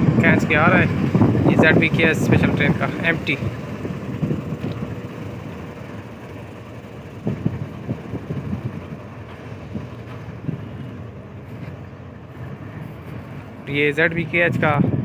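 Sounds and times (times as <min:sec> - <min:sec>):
wagon wheels clanking: 0:00.0 - 0:14.5
train rumble: 0:00.0 - 0:15.0.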